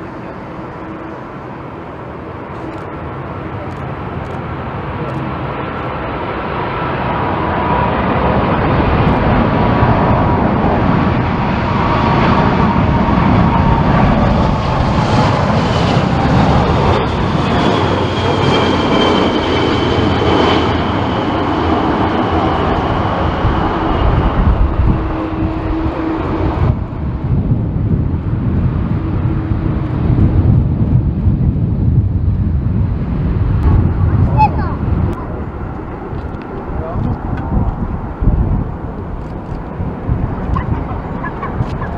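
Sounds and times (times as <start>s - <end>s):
jet engine whine: 0.0s - 41.9s
jet engines roaring: 0.0s - 41.9s.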